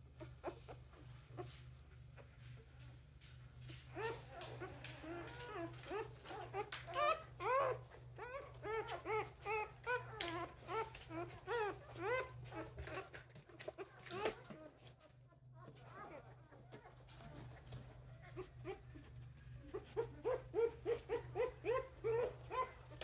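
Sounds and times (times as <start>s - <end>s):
puppy whimpering and squealing: 3.9s - 23.0s.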